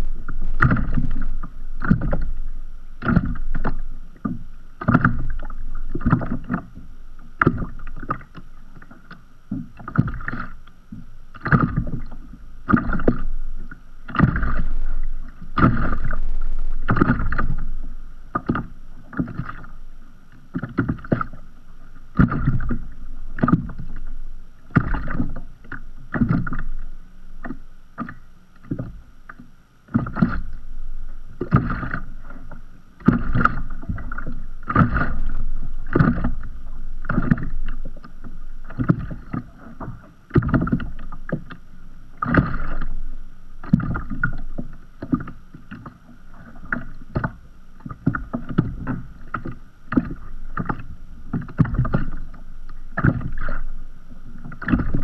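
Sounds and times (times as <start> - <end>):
waves lapping against kayak: 0.0 - 55.0.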